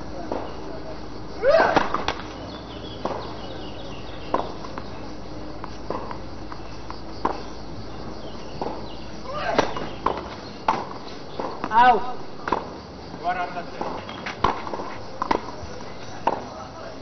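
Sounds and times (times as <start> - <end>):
faint background hiss: 0.0 - 17.0
tennis ball bouncing on clay: 1.8 - 12.8, 13.6 - 16.6.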